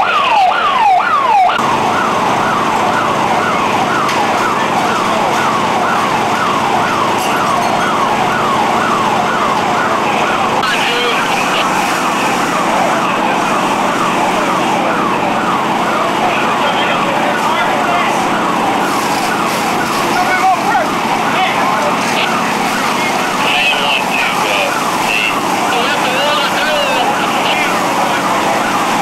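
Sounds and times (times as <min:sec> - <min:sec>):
constant rushing noise: 0:00.0 - 0:29.0
siren yelping: 0:00.0 - 0:29.0.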